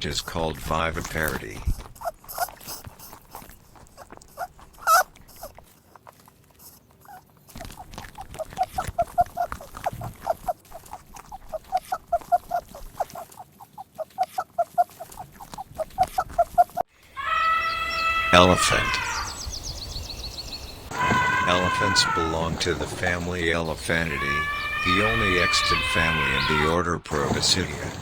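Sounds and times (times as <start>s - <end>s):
rabbit grunting: 0.0s - 5.7s, 6.6s - 16.8s, 18.3s - 19.2s, 21.0s - 28.0s.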